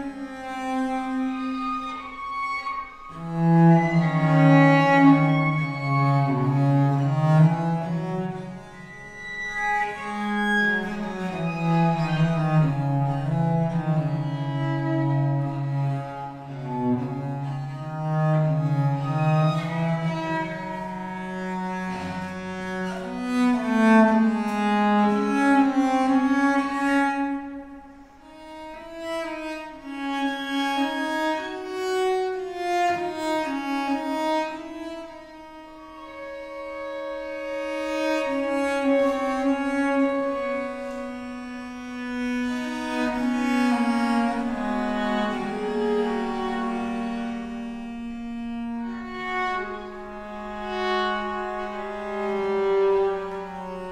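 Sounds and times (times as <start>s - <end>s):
violin bowing: 0.0s - 53.9s.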